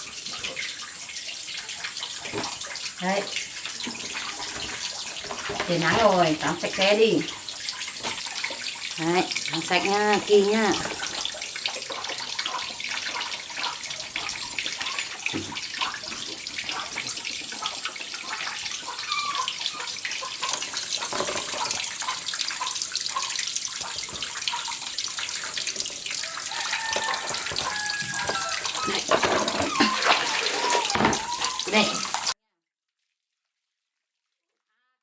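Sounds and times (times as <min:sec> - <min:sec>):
running water hiss: 0:00.0 - 0:32.4
water splashing in a bath: 0:00.0 - 0:32.4.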